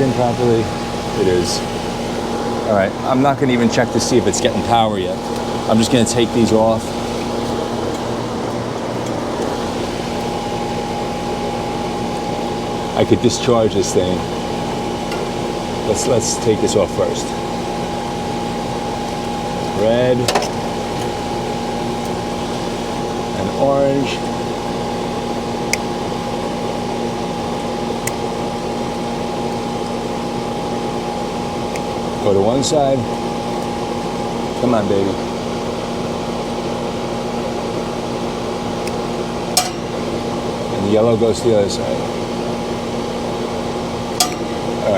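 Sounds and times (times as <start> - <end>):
air conditioner humming: 0.0 - 44.9.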